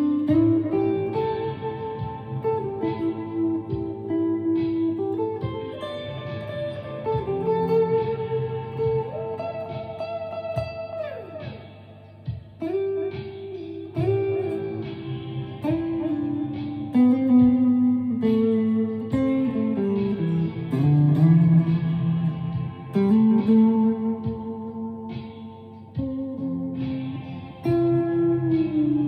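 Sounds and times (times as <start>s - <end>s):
electric guitar notes ringing: 0.0s - 29.0s.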